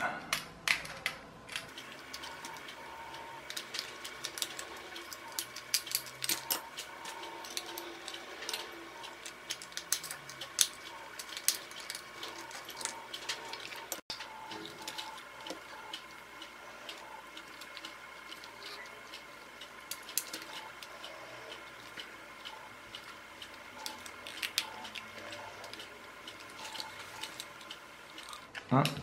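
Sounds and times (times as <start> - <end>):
plastic toy parts clicking: 3.4 - 16.0, 16.9 - 29.0.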